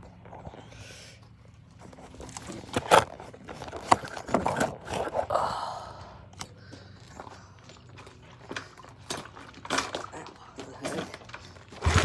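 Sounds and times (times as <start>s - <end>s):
rustling and scraping: 0.0s - 5.3s, 6.8s - 12.0s.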